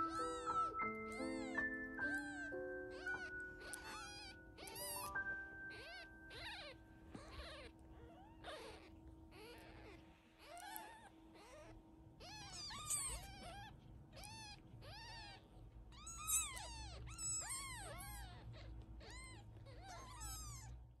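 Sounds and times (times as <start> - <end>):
kittens mewing: 0.0 - 20.8.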